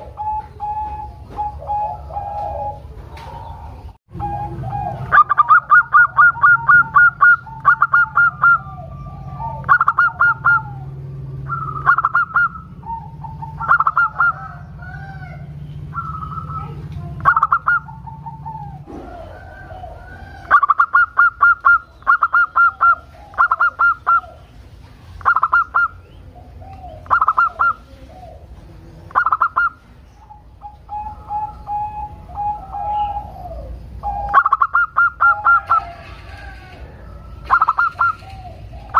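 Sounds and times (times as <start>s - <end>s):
dove cooing song: 0.0s - 38.9s.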